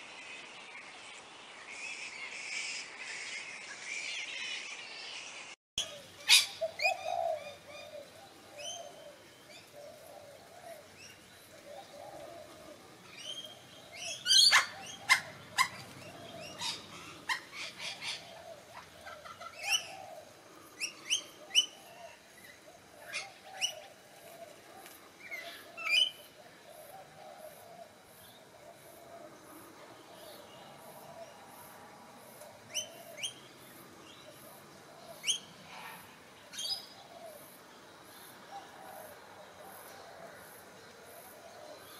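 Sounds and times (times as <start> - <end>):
steady hiss: 0.0 - 41.9
birds chirping: 3.3 - 41.9.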